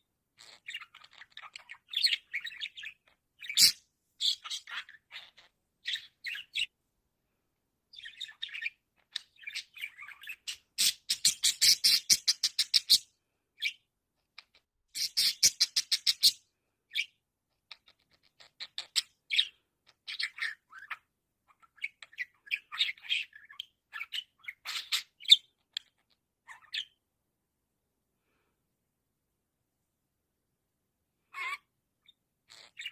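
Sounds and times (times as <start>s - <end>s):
budgerigar chirping: 0.4s - 6.7s, 7.9s - 27.0s, 31.3s - 32.9s.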